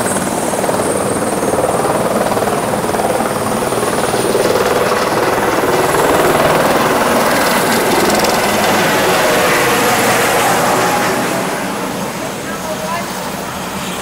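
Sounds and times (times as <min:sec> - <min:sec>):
helicopter engine and rotors: 0:00.0 - 0:14.0.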